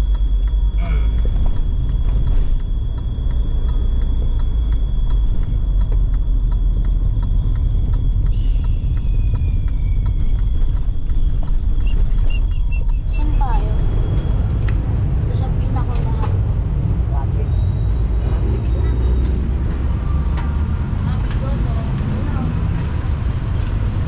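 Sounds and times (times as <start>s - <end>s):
vehicle rumbling on road: 0.0s - 24.0s.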